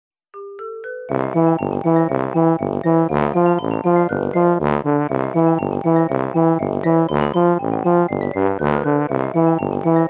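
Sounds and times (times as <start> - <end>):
upbeat background music: 1.1 - 10.0.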